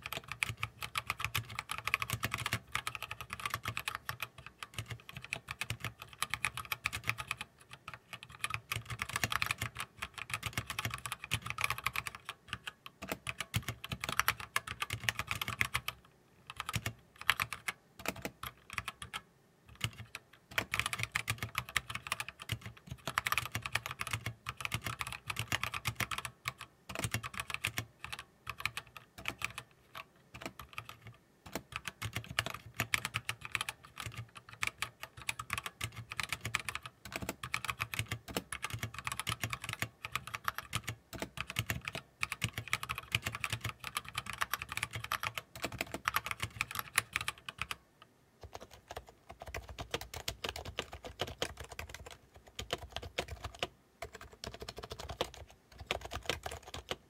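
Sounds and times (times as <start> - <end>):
mechanical keyboard typing: 0.0 - 47.8, 48.4 - 57.0.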